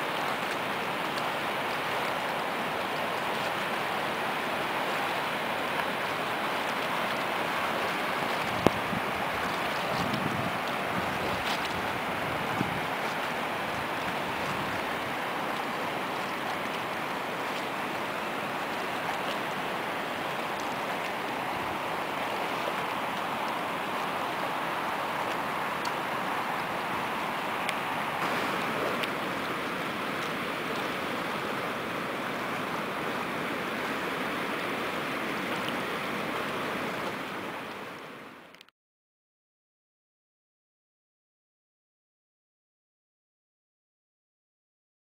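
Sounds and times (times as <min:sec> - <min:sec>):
water rushing: 0:00.0 - 0:38.6.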